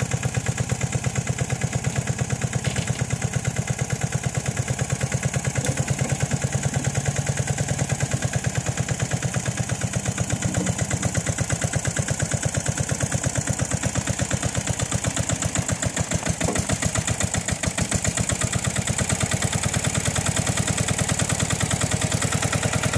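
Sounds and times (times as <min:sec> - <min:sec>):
diesel engine chugging: 0:00.0 - 0:22.9.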